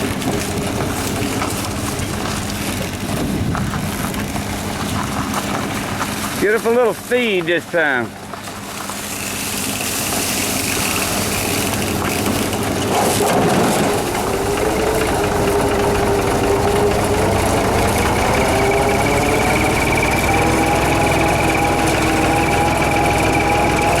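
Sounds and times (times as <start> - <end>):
vehicle engine pulling: 0.0 - 24.0.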